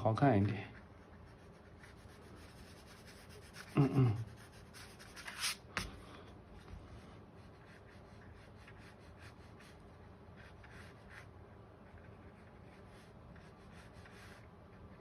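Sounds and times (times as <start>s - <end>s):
pencil scratching on paper: 0.7s - 5.9s, 7.4s - 15.0s.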